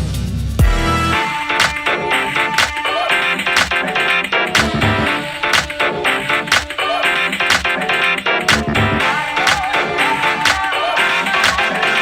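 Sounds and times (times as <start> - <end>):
electro swing music: 0.6 - 12.0.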